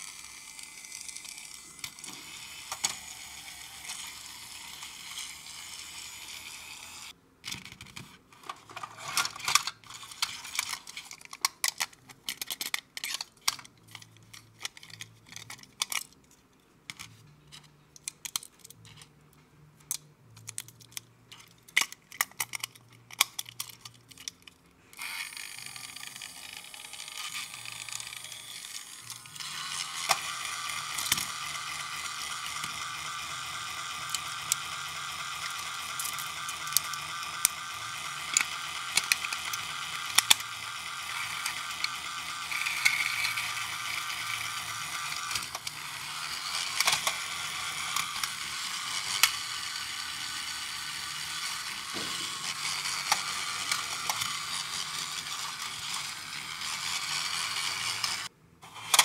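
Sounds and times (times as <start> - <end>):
toy motor and gears whirring: 0.0 - 16.2, 20.4 - 59.0.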